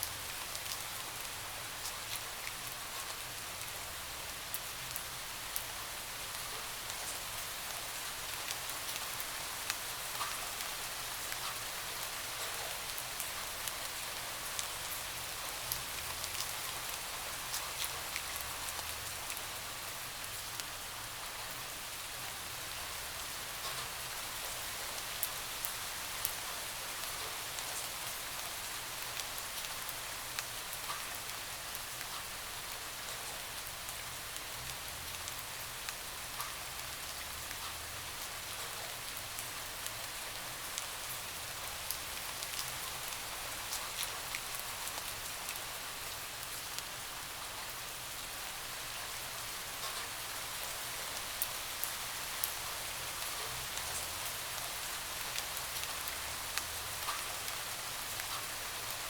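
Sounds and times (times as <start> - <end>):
rain hissing on window: 0.0 - 59.0.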